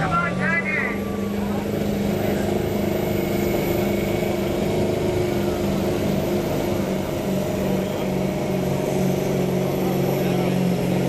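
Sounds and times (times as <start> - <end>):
diesel engine at high revs: 0.0 - 11.0.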